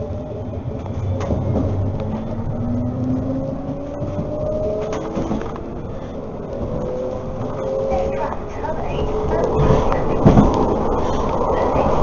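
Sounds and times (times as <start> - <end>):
tram motors whining: 0.0 - 12.0
wheels rumbling on rail: 0.0 - 12.0.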